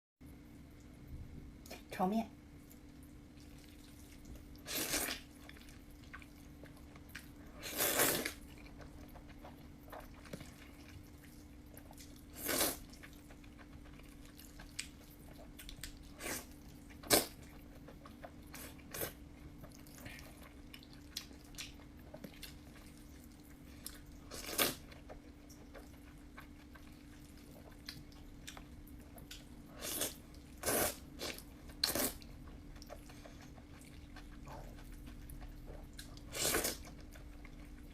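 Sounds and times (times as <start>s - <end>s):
faint low hum: 0.2s - 37.9s
slurping and chewing noodles: 3.4s - 37.9s.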